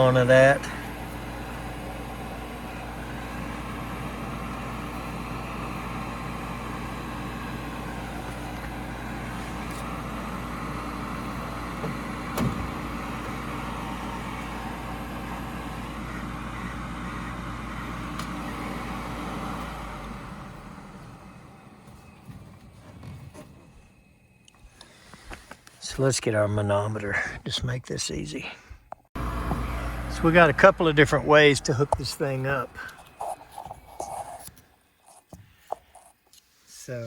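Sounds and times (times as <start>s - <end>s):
furnace inducer motor running: 0.0s - 25.6s, 29.2s - 34.6s.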